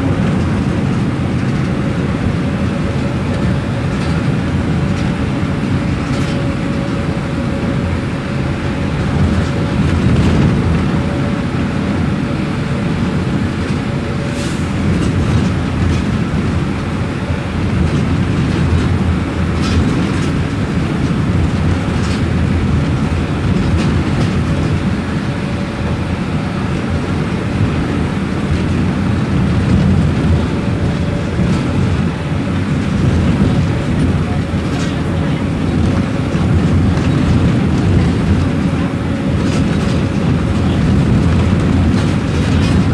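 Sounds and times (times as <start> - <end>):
diesel bus engine rumble: 0.0 - 42.9.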